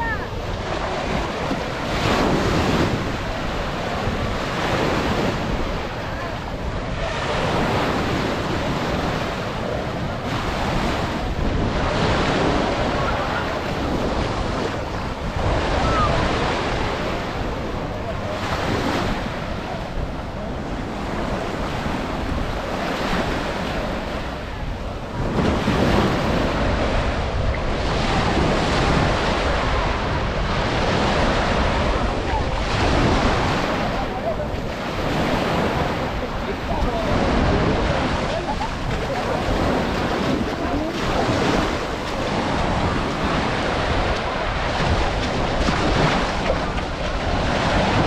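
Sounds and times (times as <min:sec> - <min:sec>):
ocean waves breaking on beach: 0:00.0 - 0:48.0
wind buffeting microphone: 0:00.0 - 0:48.0.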